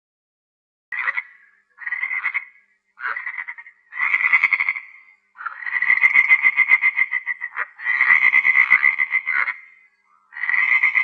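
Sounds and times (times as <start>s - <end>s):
frog croaking: 0.9s - 11.0s.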